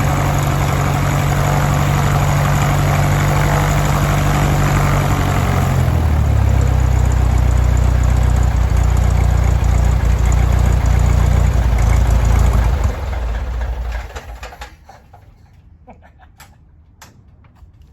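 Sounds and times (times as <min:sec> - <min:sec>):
aircraft engine and propeller idling: 0:00.0 - 0:15.1.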